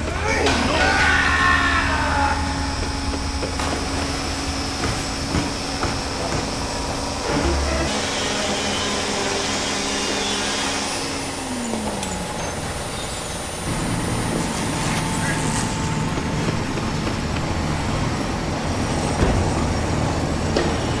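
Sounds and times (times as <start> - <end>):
low hum: 0.0 - 7.9, 9.5 - 20.9
heavy machinery running: 0.0 - 21.0.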